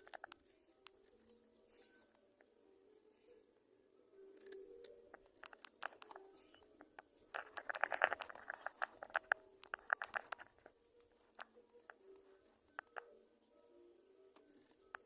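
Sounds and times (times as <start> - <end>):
small clicks and rustles: 0.0 - 3.3, 4.3 - 13.2, 14.3 - 15.0.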